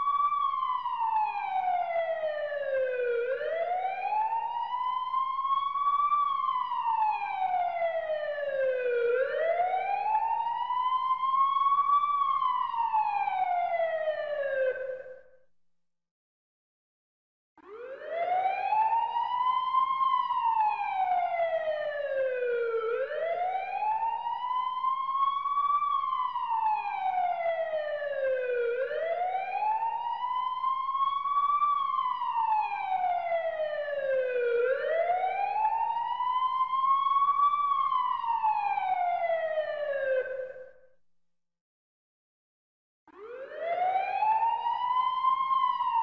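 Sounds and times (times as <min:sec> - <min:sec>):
emergency vehicle siren wailing: 0:00.0 - 0:15.2, 0:17.6 - 0:40.8, 0:43.1 - 0:46.0.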